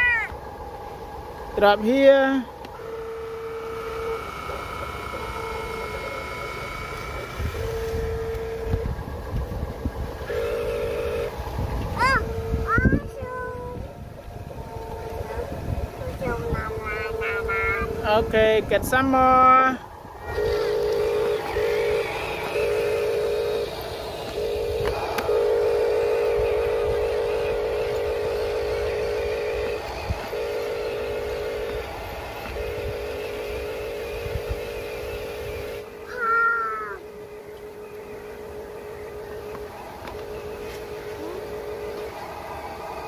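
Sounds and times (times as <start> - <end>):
toy truck motor whining: 2.7 - 13.7, 14.7 - 42.2
high rising and falling call: 2.8 - 8.9, 10.2 - 43.0.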